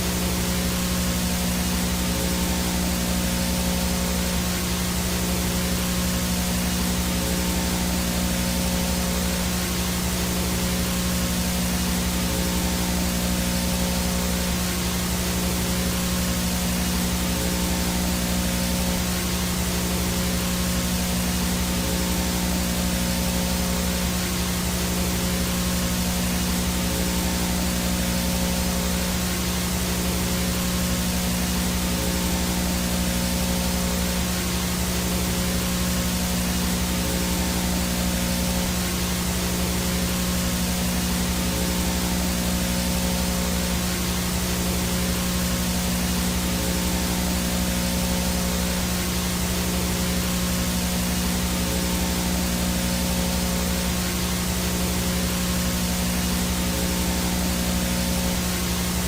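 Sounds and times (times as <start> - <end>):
low electrical hum: 0.0 - 59.0
tape static hiss: 0.0 - 59.0.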